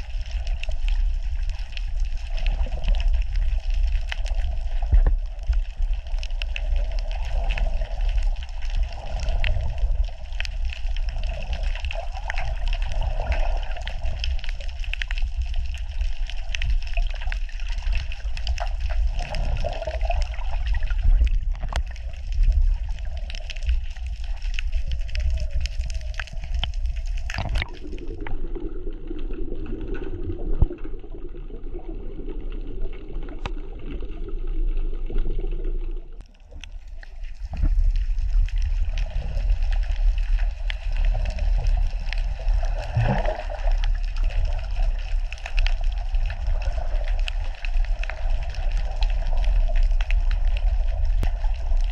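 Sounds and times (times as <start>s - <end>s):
rumble of moving water: 0.0s - 51.9s
underwater crackle of clicks: 0.0s - 51.9s.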